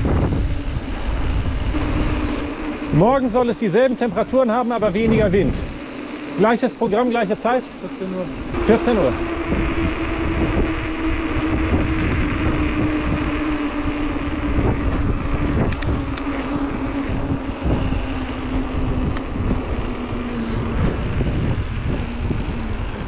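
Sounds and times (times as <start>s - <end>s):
bike tyre hum on asphalt: 0.0s - 23.0s
wind rumbling on microphone: 0.0s - 23.0s.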